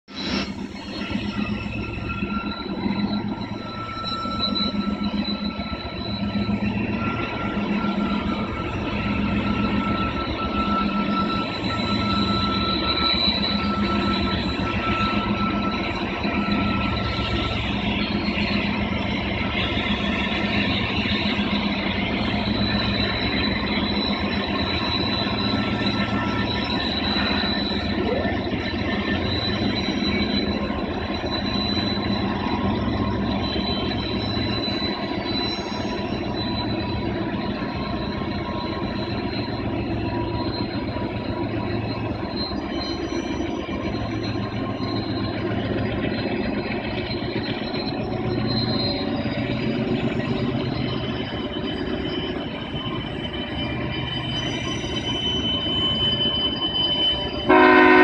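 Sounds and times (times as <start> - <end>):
diesel locomotives droning: 0.0 - 58.0
wheel squeal: 0.1 - 58.0.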